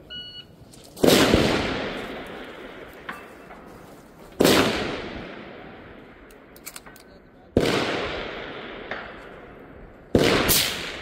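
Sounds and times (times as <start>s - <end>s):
rifle shots with echo: 1.0s - 3.7s, 4.4s - 11.0s.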